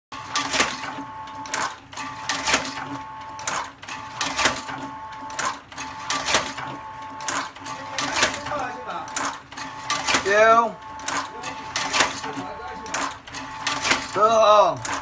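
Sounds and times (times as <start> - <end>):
machine motor hum: 0.1 - 15.0
mechanical clack: 0.3 - 10.4, 11.0 - 14.2.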